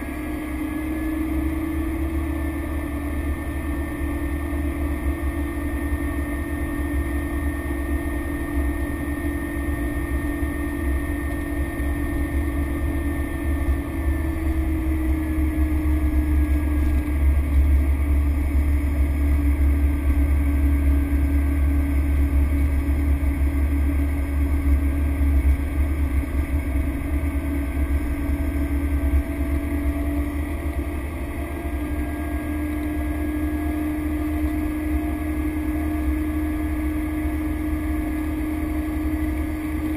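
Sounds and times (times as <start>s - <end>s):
turboprop engine and propeller: 0.0s - 39.9s.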